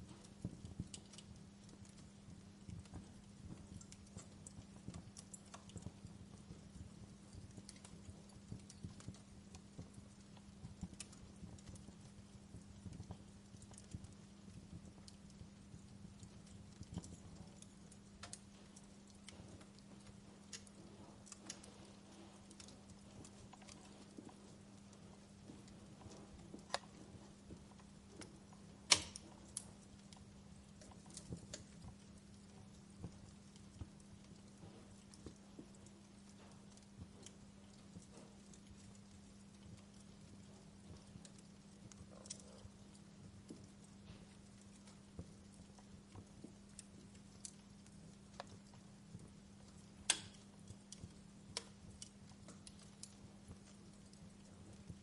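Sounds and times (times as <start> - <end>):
faint low hum: 0.0 - 55.0
wood fire crackling: 0.0 - 55.0.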